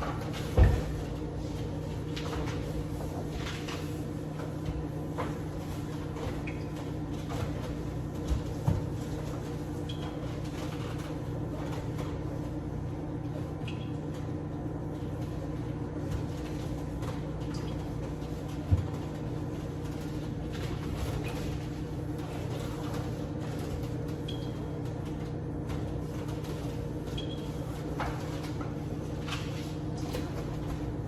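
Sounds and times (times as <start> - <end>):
steady low hum: 0.0 - 31.0
towel wiping microwave: 0.0 - 31.0.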